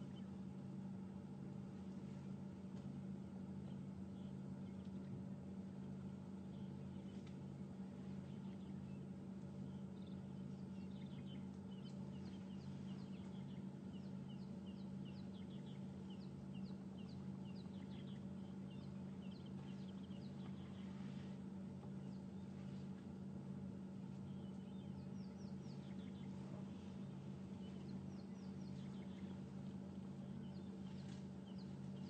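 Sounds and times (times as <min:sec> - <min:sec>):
steady low hum: 0:00.0 - 0:32.0
birds chirping: 0:03.5 - 0:32.0.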